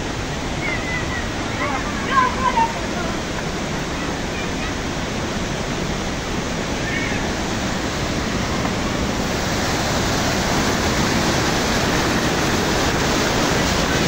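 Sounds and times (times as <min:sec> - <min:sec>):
waterfall rushing over rocks: 0:00.0 - 0:14.0.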